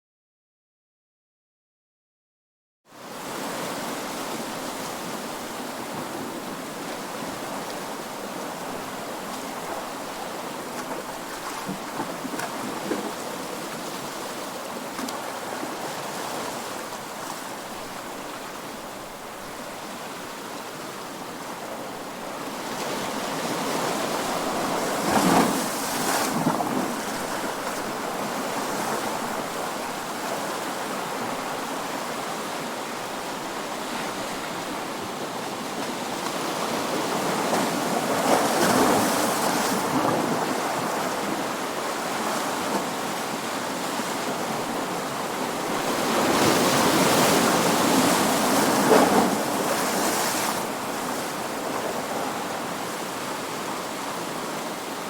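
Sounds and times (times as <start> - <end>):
ocean surf waves: 3.0 - 55.0.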